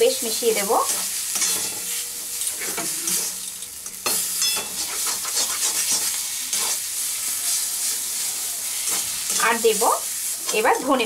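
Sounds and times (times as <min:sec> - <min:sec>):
light frying sizzle: 0:00.0 - 0:11.0
spatula scraping metal wok: 0:00.8 - 0:11.0.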